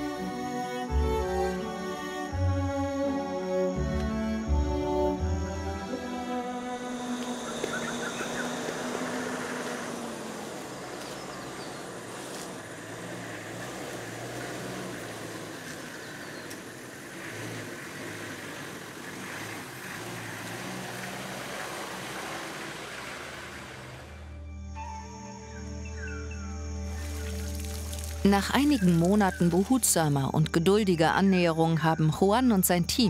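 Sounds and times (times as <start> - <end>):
vehicle engine droning: 0.0 - 25.0, 26.1 - 33.0.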